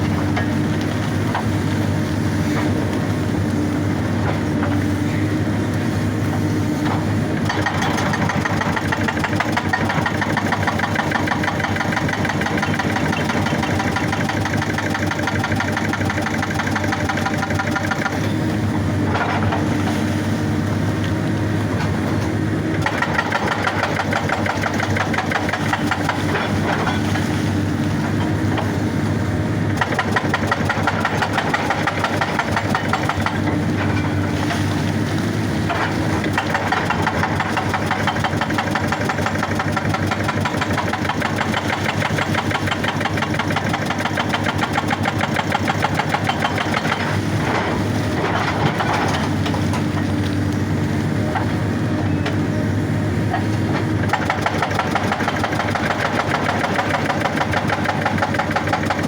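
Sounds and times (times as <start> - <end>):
diesel engine running: 0.0 - 59.0
hydraulic rock breaker hammering: 6.3 - 20.1, 21.7 - 50.3, 51.2 - 59.0.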